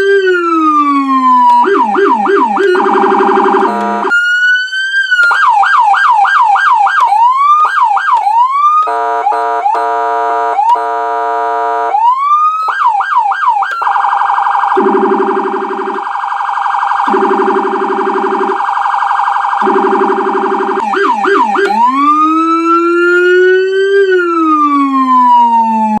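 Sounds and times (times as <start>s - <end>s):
electronic vehicle siren: 0.0s - 26.0s.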